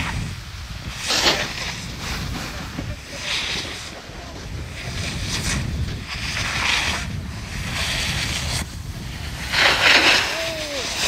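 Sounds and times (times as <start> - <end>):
snowboard carving through slush: 0.0 - 11.0
wind rumble on microphone: 0.0 - 11.0.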